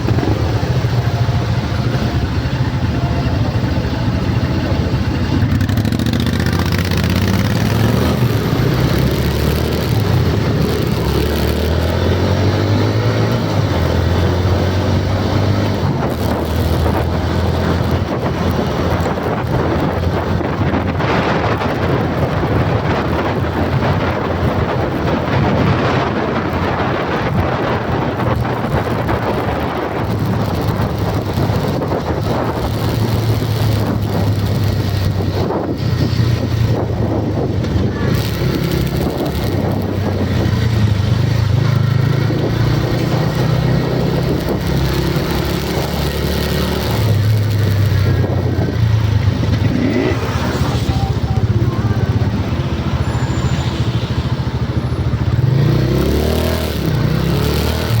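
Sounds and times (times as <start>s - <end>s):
low engine hum: 0.0s - 58.0s
road and wind noise: 0.0s - 58.0s.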